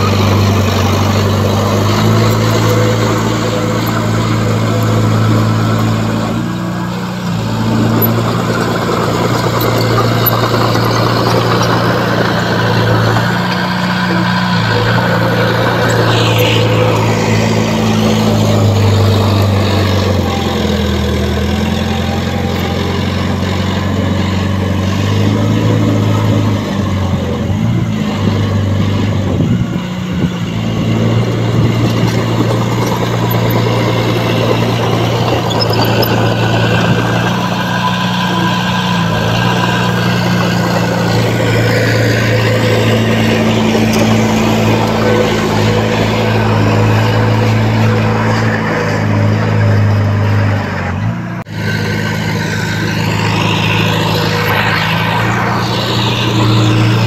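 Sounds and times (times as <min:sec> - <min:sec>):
bulldozer diesel engine: 0:00.0 - 0:57.0
high rising whine: 0:00.0 - 0:57.0.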